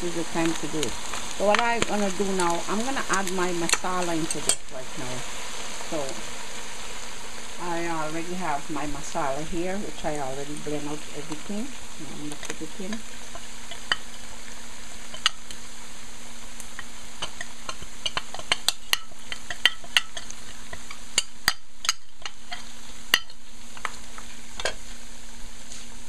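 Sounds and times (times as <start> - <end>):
meat sizzling in oil: 0.0 - 26.0.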